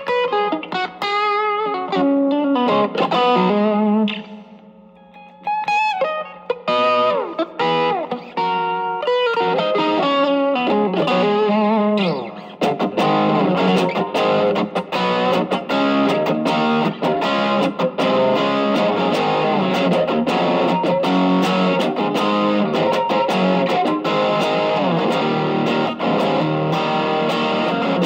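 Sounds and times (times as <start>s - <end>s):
overdriven electric guitar: 0.0s - 28.0s.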